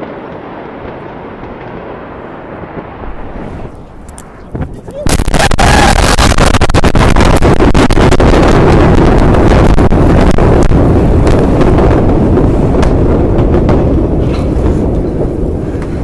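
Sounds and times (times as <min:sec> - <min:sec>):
crackles and pops: 0:00.0 - 0:16.0
explosion blast wave rumble: 0:00.0 - 0:16.0.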